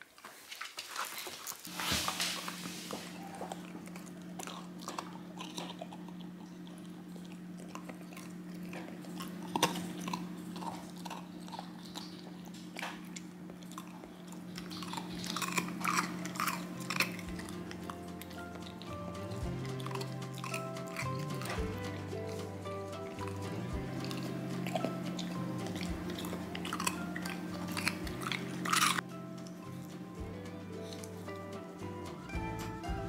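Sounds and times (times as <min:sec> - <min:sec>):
puppy crunching a frozen treat: 0:00.0 - 0:31.4
steady low hum: 0:01.6 - 0:33.0.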